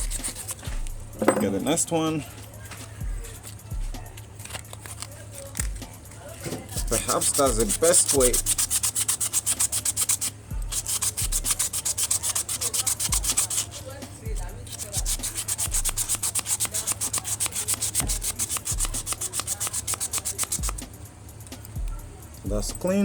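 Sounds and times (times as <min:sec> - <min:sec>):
brush scrubbing rusty metal: 0:00.0 - 0:05.6, 0:06.3 - 0:21.0.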